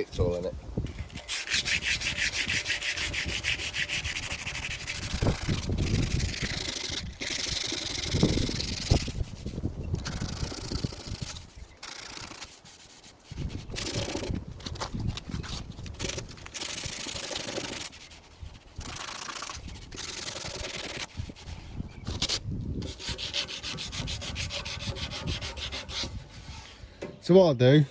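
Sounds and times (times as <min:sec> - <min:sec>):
wind buffeting microphone: 0:00.1 - 0:11.9, 0:13.3 - 0:17.2, 0:18.3 - 0:27.0
sandpaper rubbing on metal: 0:01.0 - 0:26.8.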